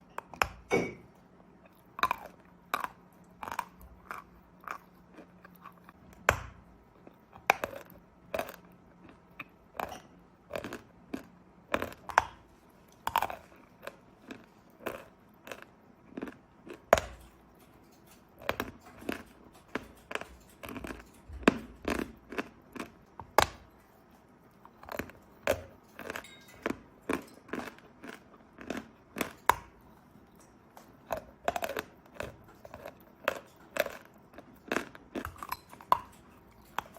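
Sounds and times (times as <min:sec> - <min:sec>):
chalk being chewed crunching: 0:01.6 - 0:06.2, 0:06.9 - 0:36.9.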